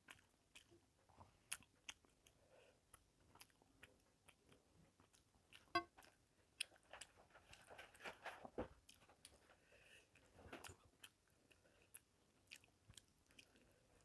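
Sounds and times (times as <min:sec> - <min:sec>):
chewing food: 0:00.0 - 0:14.0.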